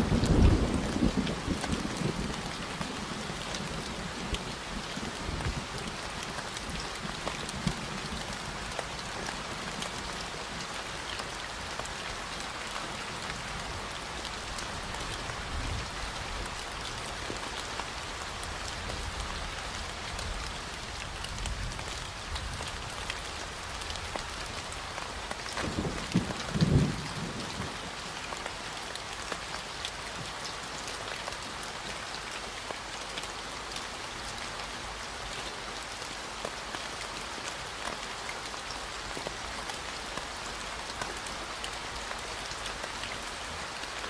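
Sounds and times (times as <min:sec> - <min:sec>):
steady rain patter: 0:00.0 - 0:44.0.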